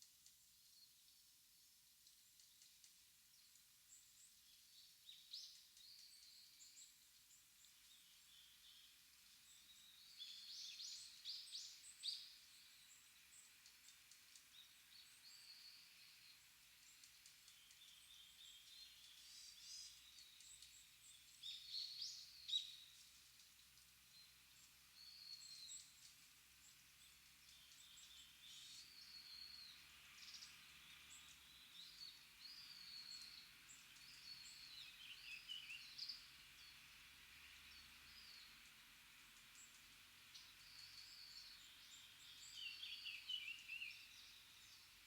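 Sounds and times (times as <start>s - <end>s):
faint steady hiss: 0.0s - 45.0s
small birds chirping: 2.0s - 45.0s.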